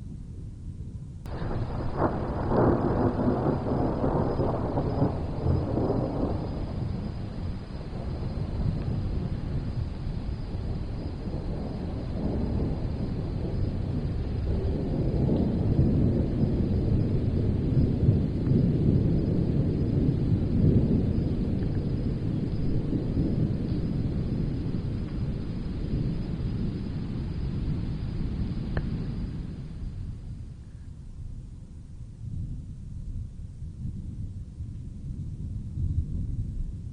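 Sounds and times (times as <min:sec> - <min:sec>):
soft wind: 0:00.0 - 0:36.9
distant thunder rolling: 0:01.3 - 0:30.9.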